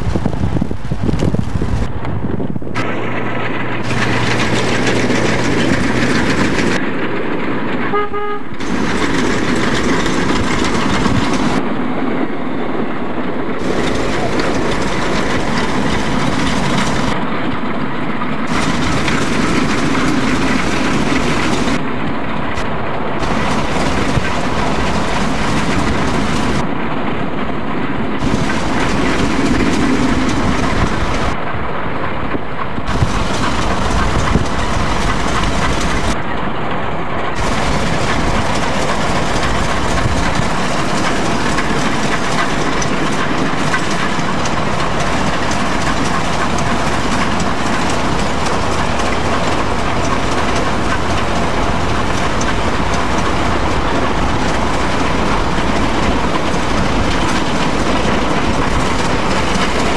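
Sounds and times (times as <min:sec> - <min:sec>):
steam locomotive running at speed: 0:00.0 - 0:59.9
wind noise: 0:00.0 - 0:59.9.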